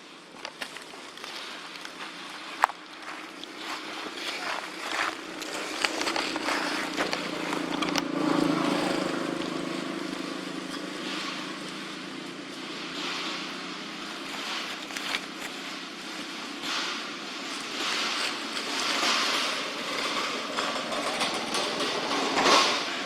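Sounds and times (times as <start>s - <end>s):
outdoor rustle: 0.0s - 23.0s
motor engine humming: 1.7s - 23.0s.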